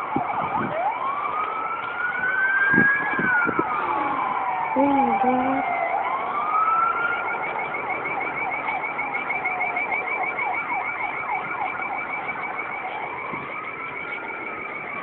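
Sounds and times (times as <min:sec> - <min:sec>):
high pulsing siren: 0:00.0 - 0:15.0
siren wailing and yelping: 0:00.0 - 0:15.0.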